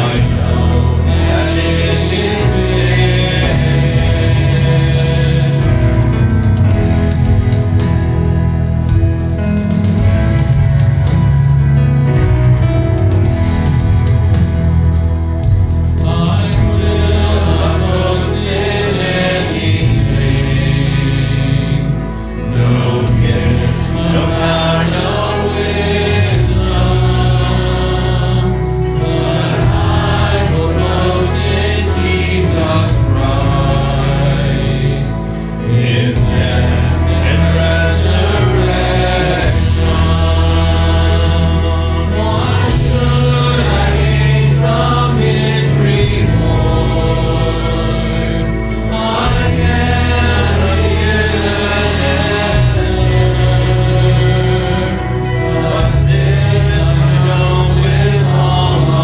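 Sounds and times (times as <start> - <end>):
group singing a hymn: 0.0 - 59.0
instrumental accompaniment: 0.0 - 59.0.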